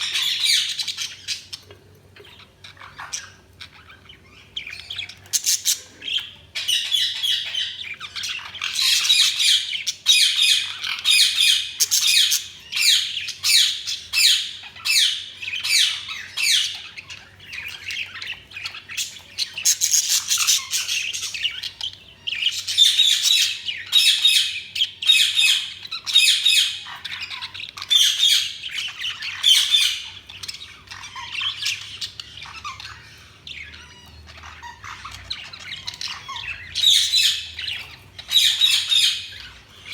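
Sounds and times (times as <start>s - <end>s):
budgies chirping and squawking: 0.0s - 39.9s.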